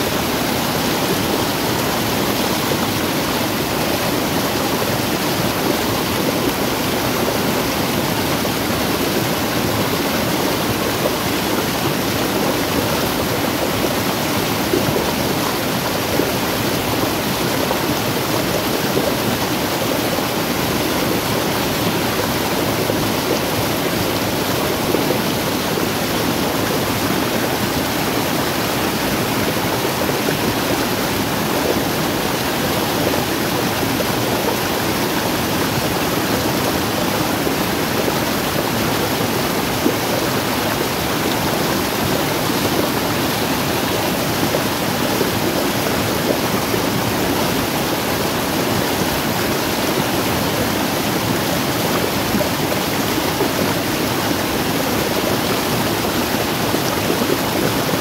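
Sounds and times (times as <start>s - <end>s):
stream water rushing over rock: 0.0s - 58.0s.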